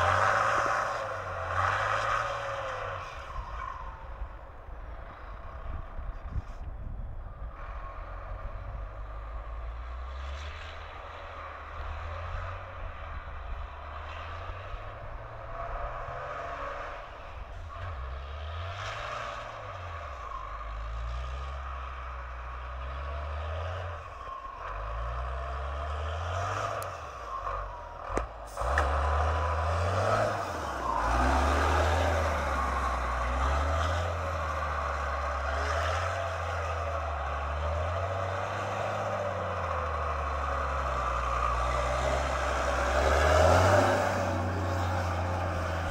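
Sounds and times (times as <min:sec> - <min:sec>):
truck diesel engine revving: 0:00.0 - 0:06.1, 0:07.2 - 0:45.9.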